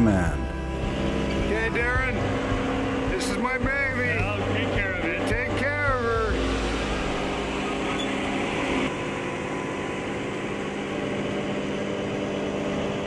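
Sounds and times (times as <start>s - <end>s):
ship machinery humming: 0.0s - 13.0s.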